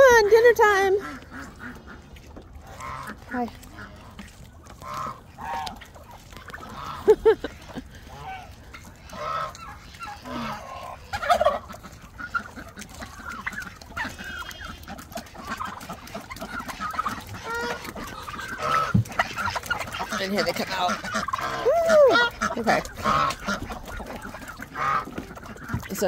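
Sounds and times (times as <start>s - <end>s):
poultry flock calling: 0.0s - 26.0s.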